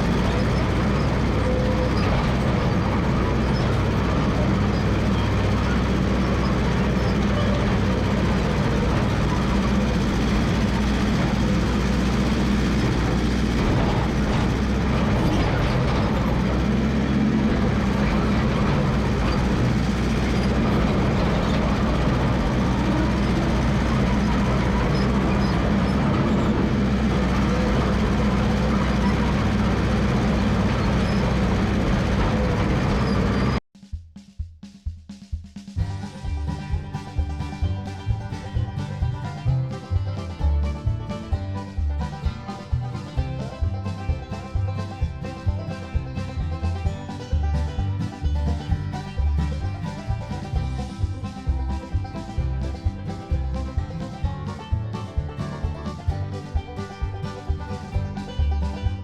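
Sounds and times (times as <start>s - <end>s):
dozer engine running: 0.0s - 33.6s, 35.8s - 59.0s.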